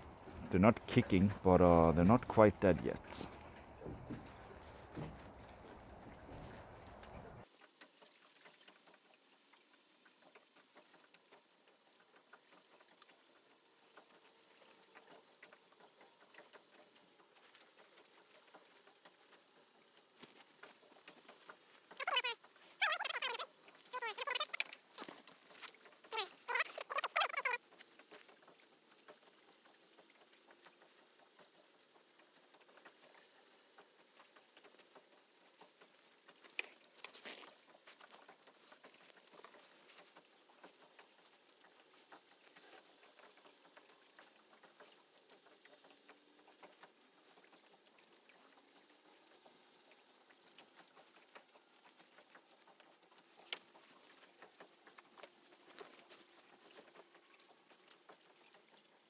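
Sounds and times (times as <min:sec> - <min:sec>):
net and shells clicking and rustling: 0:07.4 - 0:47.8, 0:48.6 - 0:59.0.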